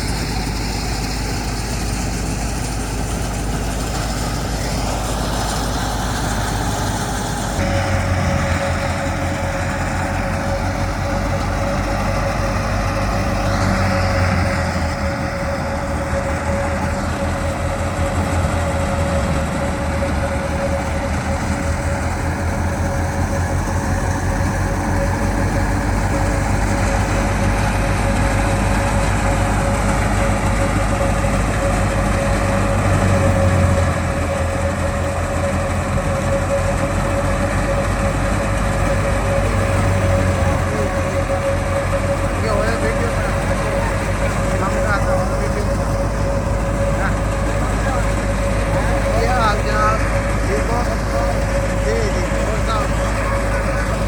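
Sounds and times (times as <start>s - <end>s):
harvester engine droning: 0.0s - 54.0s
steady high whine: 0.0s - 54.0s.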